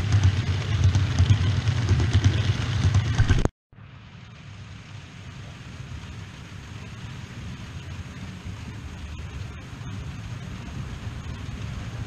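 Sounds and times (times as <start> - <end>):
model train rumbling on track: 0.0 - 3.4, 4.2 - 12.0
wheels clicking on rails: 0.0 - 3.5, 4.5 - 12.0
quiet steady train running: 0.0 - 12.0.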